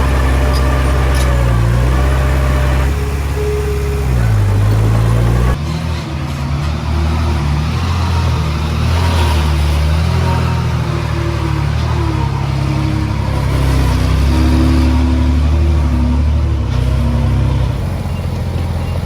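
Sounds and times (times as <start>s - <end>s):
heavy diesel engine under load: 0.0s - 19.0s.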